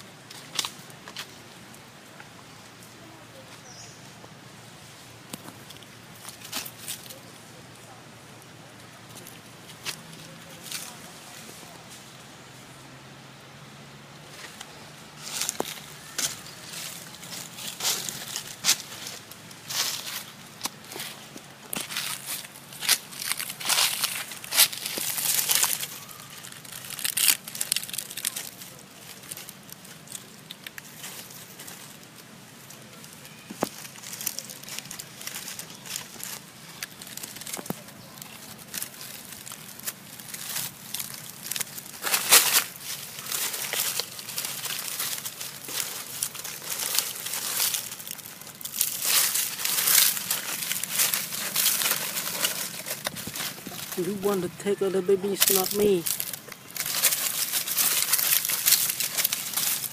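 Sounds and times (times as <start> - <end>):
rustling and crinkling crackles: 0.0 - 12.8, 14.2 - 59.9.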